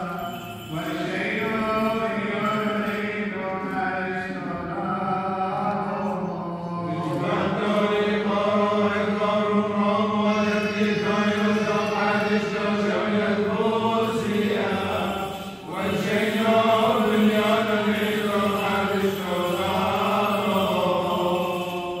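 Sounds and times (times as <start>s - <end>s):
group chanting: 4.0s - 22.0s.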